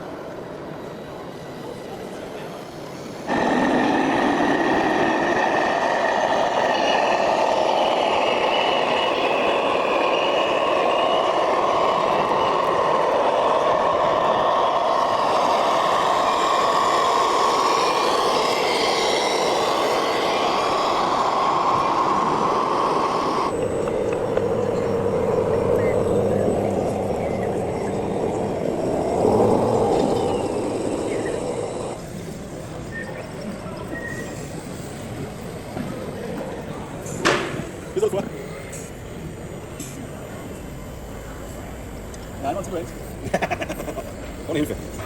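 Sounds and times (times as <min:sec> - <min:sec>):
model machine mechanical drone: 0:00.0 - 0:45.0.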